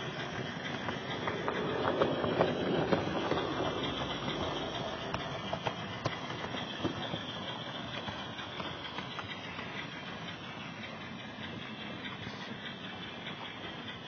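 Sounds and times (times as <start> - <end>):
model train rumbling on track: 0.0 - 14.0
wheels clicking over rail joints: 0.0 - 14.0.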